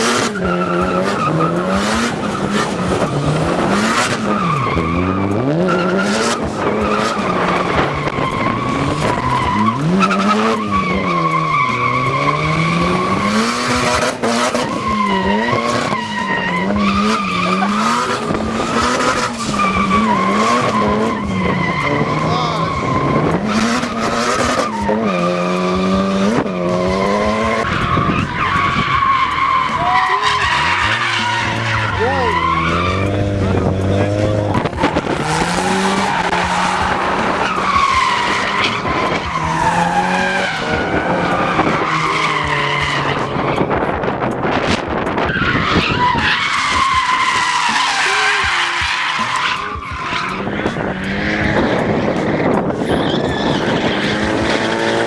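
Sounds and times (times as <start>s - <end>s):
car engines revving: 0.0s - 55.0s
tyres squealing: 0.0s - 55.0s.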